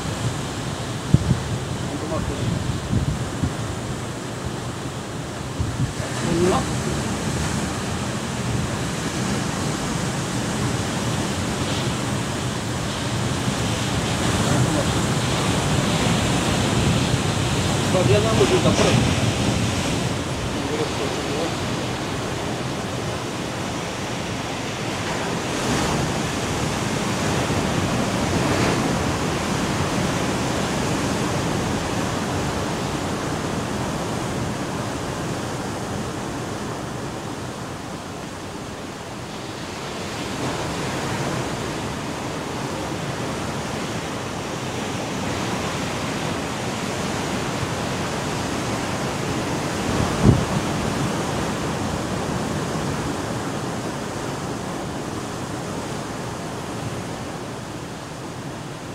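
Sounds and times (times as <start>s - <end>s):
surf breaking on rocky shore: 0.0s - 58.9s.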